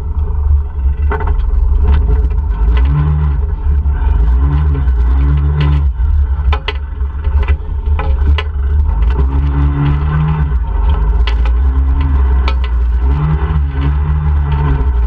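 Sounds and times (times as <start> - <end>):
knocks and rattles: 0.0 - 15.0
atv engine revving: 1.5 - 15.0.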